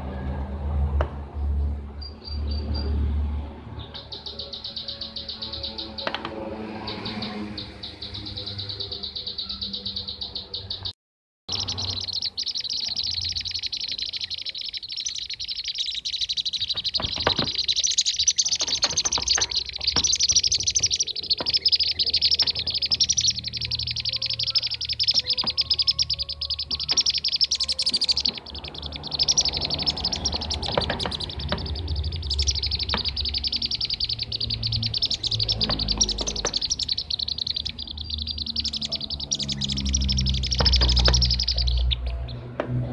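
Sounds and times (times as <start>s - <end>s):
birds chirping in chorus: 1.9s - 10.9s, 11.5s - 42.6s.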